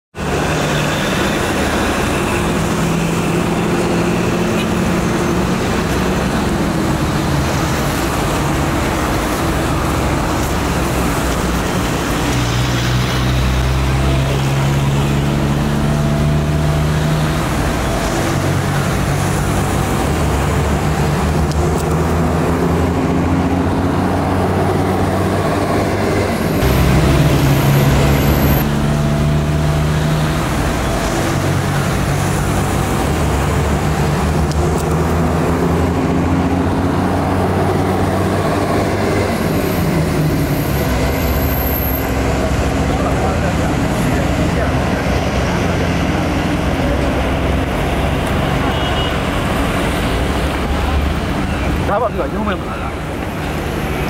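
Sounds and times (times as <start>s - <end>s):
city street traffic: 0.1s - 54.0s.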